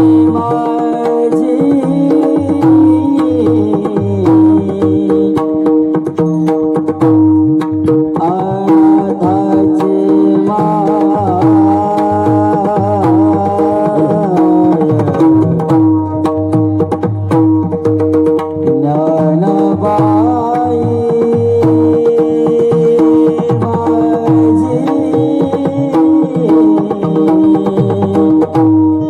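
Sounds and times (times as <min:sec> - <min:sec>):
person singing: 0:00.0 - 0:06.5, 0:08.1 - 0:15.7, 0:18.6 - 0:29.0
hand drum strokes: 0:00.0 - 0:29.0.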